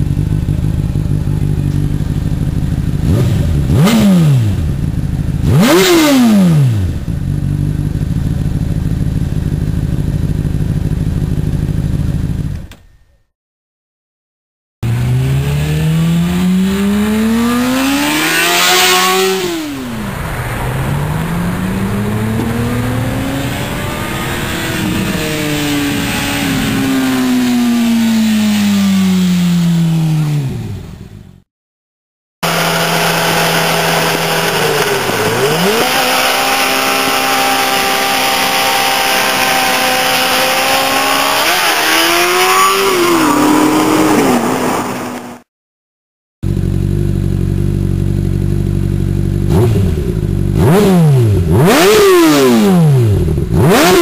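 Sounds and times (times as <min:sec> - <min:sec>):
motorcycle engine revving: 0:00.0 - 0:12.8, 0:14.8 - 0:31.5, 0:32.4 - 0:45.5, 0:46.4 - 0:54.0.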